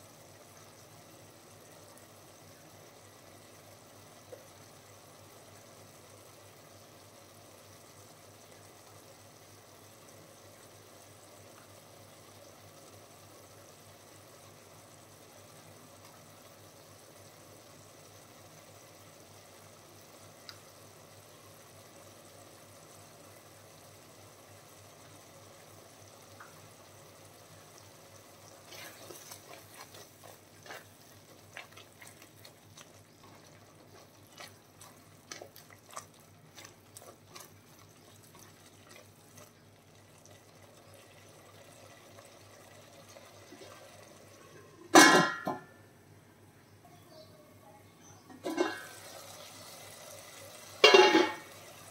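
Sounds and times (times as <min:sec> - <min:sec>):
liquid bubbling in a pot: 0:00.0 - 0:45.7, 0:48.4 - 0:51.9
faint steady hiss: 0:00.0 - 0:51.9.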